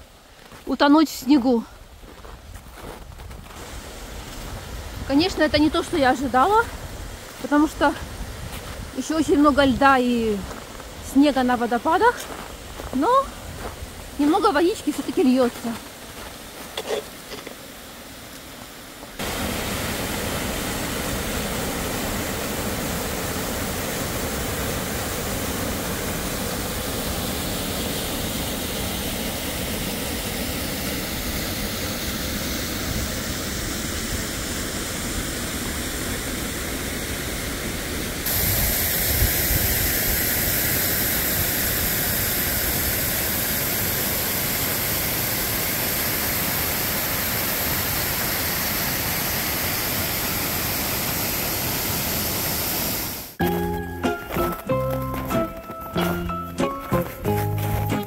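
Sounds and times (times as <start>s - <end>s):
water rushing down cascade: 3.5s - 53.4s.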